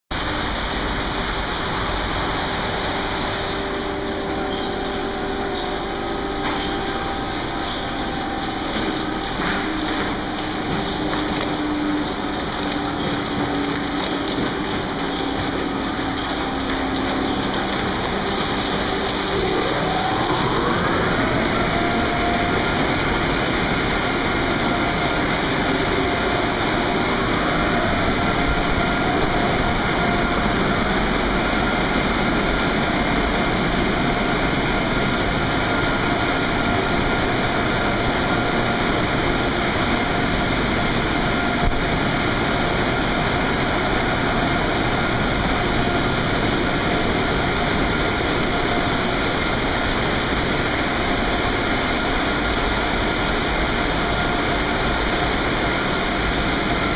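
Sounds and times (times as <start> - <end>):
blower dryers rushing air: 0.1 - 56.9.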